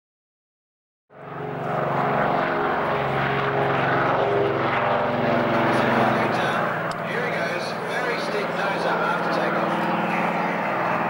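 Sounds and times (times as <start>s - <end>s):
propeller aircraft engines passing: 1.1s - 11.0s.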